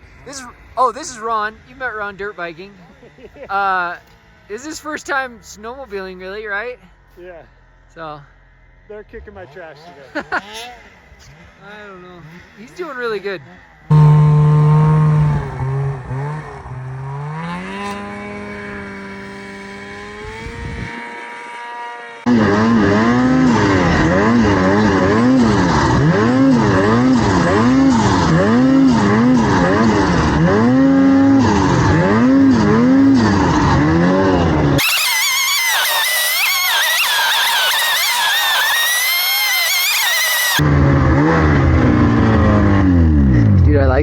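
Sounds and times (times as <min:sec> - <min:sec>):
snowmobile engine revving: 0:00.0 - 0:06.6, 0:07.7 - 0:44.0.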